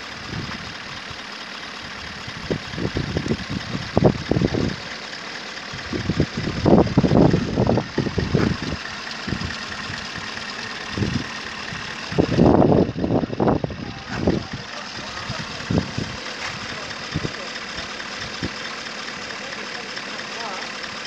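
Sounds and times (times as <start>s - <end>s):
car engine idling: 0.0s - 21.0s
low engine rumbling: 0.0s - 21.0s.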